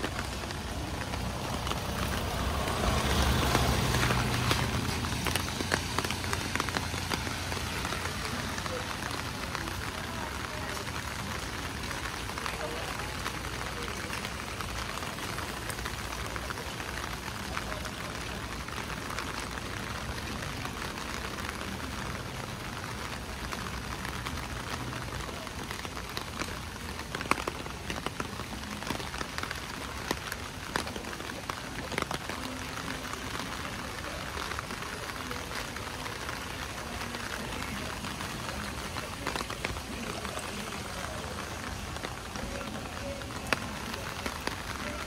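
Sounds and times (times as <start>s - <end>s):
rain falling: 0.0s - 45.0s
raindrops tapping: 0.0s - 45.0s.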